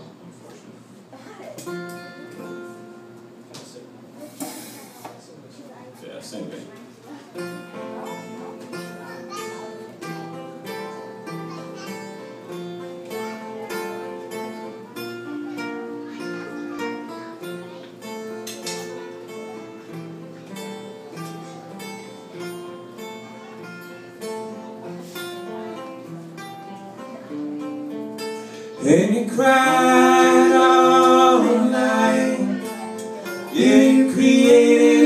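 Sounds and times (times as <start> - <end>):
acoustic guitar strumming: 1.7 - 3.4, 7.3 - 35.0.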